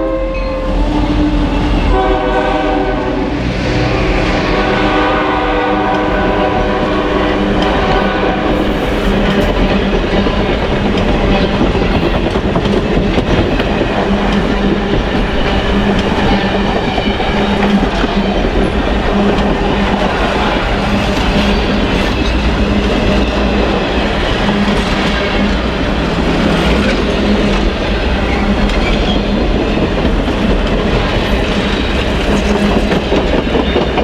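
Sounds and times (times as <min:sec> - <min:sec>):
locomotive horn: 0:00.0 - 0:28.9
train wheels clattering on rails: 0:00.6 - 0:34.0.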